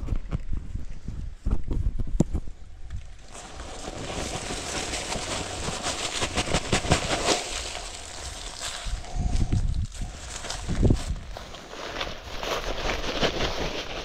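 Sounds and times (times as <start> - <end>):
dry rustling and crackling: 2.8 - 14.0.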